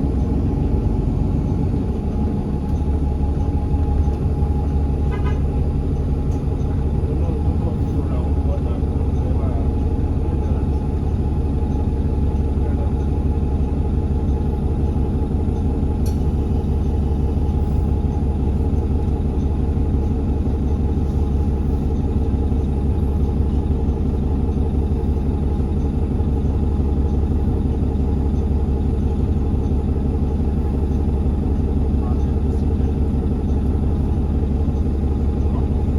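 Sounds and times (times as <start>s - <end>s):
bus engine drone: 0.0s - 35.9s.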